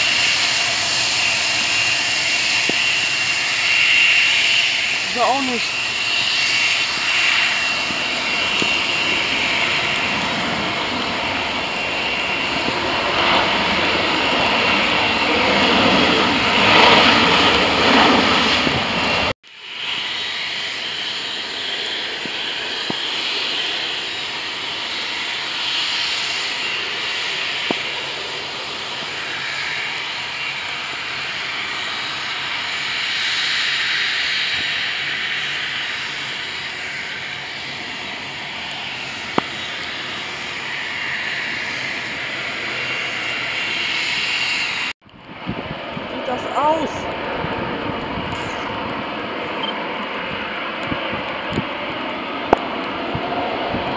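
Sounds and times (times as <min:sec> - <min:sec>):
jet engines running loud: 0:00.0 - 0:53.9.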